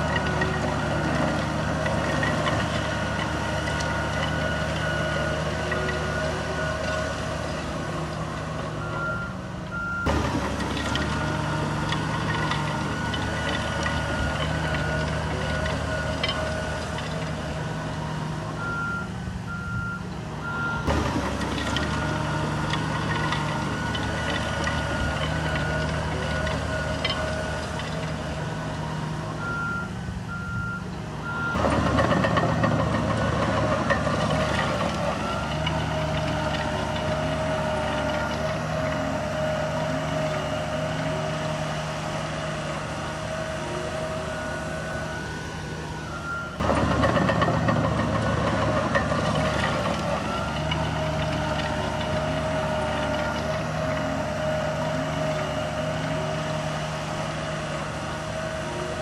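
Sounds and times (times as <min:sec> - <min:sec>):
heavy machinery diesel engines: 0:00.0 - 0:59.0
reversing alarm beeping: 0:00.0 - 0:59.0.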